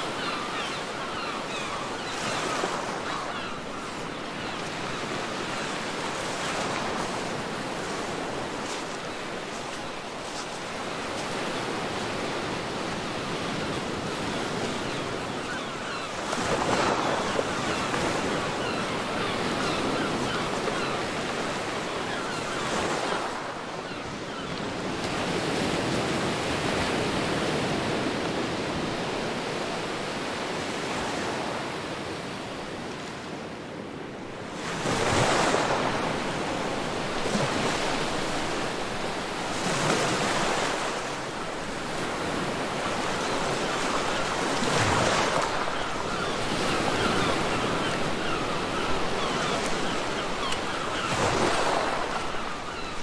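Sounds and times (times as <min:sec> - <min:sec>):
ocean waves washing onto beach: 0:00.0 - 0:53.0.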